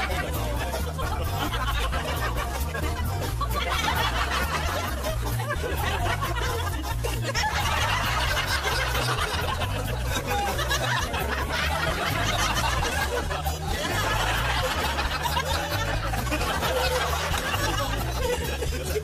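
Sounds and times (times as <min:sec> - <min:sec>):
background music: 0:00.0 - 0:19.0
people chuckling and laughing: 0:00.0 - 0:19.0.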